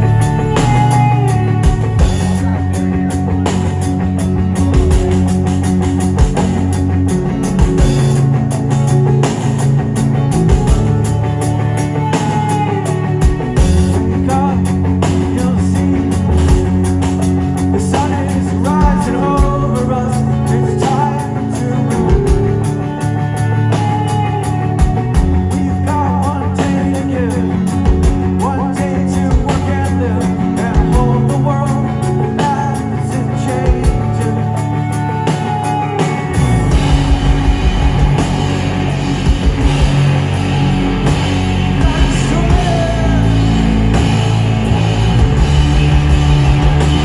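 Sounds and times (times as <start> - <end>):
bass guitar: 0.0 - 47.0
drum kit: 0.0 - 47.0
electric guitars ringing: 0.0 - 47.0.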